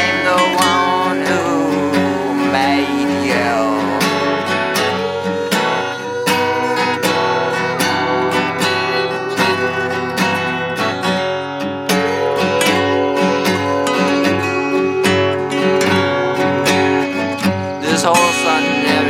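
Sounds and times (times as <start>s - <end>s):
strummed guitar: 0.0s - 19.0s.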